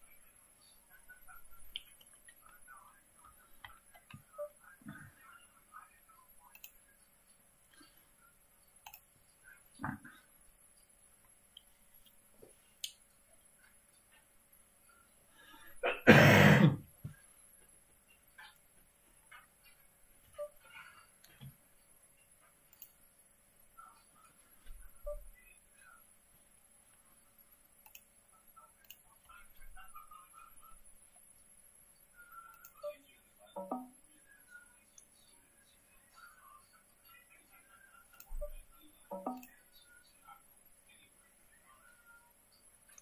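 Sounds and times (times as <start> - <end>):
faint clicks and ticks: 0.6 - 15.3, 17.0 - 35.3, 36.1 - 41.0, 41.8 - 43.0.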